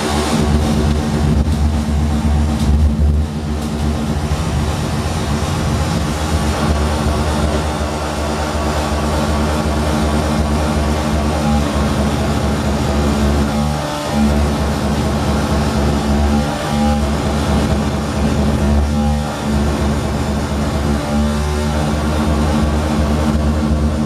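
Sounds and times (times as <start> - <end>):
droning noise music: 0.0 - 24.0
steady low rumble: 0.0 - 24.0
sustained tones: 0.0 - 24.0.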